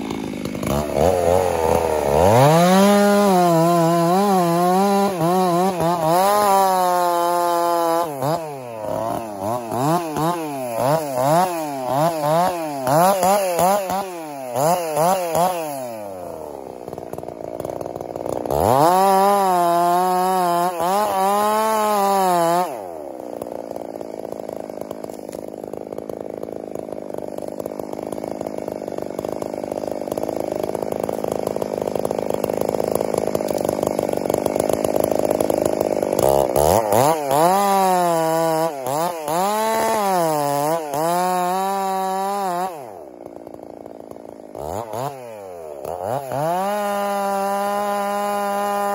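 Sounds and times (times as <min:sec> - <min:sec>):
chainsaw revving: 0:00.0 - 0:48.9.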